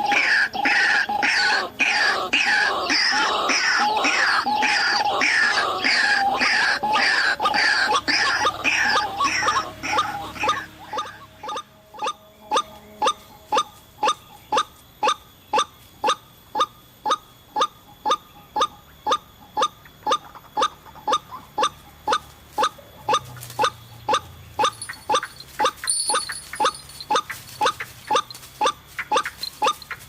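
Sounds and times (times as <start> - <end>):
waterhen calling: 0.0 - 30.0.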